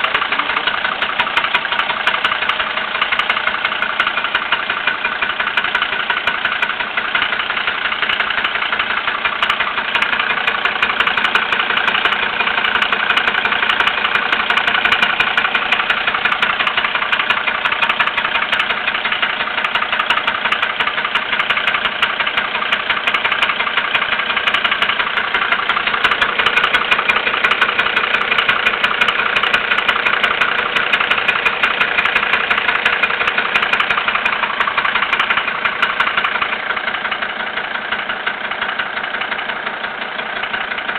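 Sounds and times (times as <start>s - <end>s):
van engine idling with knocking: 0.0s - 40.9s.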